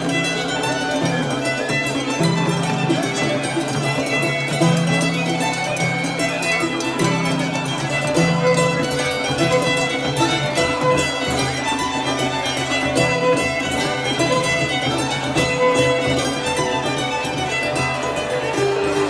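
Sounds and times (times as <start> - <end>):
carnival music led by fiddle: 0.0 - 19.0.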